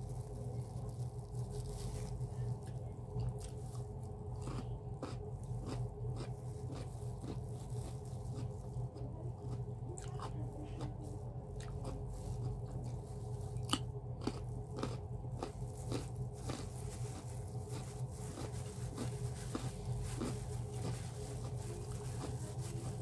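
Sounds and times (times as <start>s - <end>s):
chewing crunching raw carrot: 0.0s - 23.0s
steady low hum: 0.0s - 23.0s.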